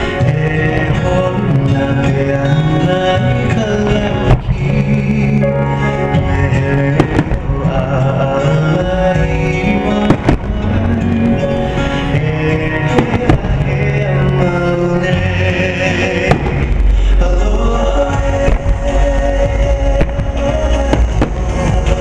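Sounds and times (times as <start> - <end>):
firework bangs: 0.0 - 22.0
music with long held tones: 0.0 - 22.0.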